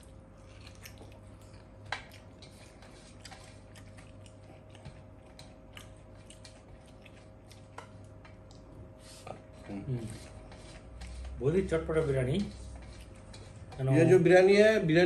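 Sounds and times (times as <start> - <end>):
chewing: 0.0 - 11.4, 12.3 - 14.1
steady low hum: 0.0 - 15.0.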